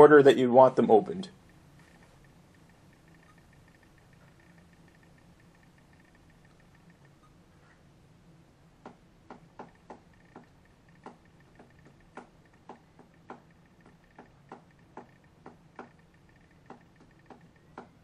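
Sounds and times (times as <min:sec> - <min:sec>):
faint steady high hum: 0:00.0 - 0:18.0.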